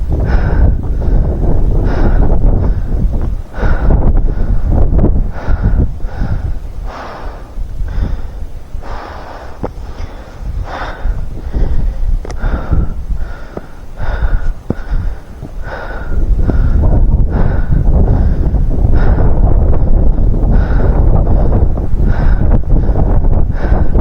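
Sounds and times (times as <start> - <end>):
heavy laboured breathing: 0.0 - 24.0
wind buffeting microphone: 0.0 - 24.0.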